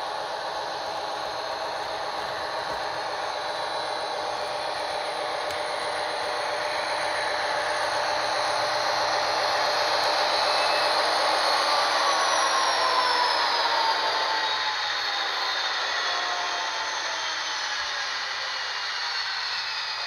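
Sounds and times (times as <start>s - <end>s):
model train whirring: 0.0s - 20.0s.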